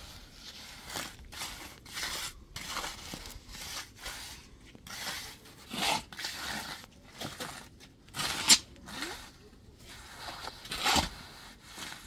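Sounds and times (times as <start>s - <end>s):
scraping and rubbing strokes: 0.0s - 12.0s.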